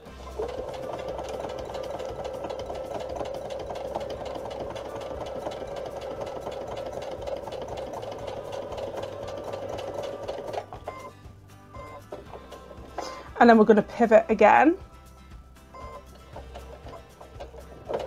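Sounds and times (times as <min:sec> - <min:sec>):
sewing machine stitching: 0:00.0 - 0:11.1, 0:11.8 - 0:13.4, 0:15.8 - 0:18.0.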